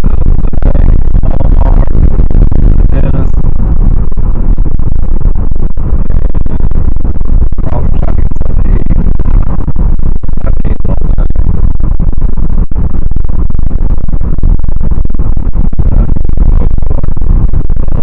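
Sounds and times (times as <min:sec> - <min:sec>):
road and wind noise in car: 0:00.0 - 0:18.0.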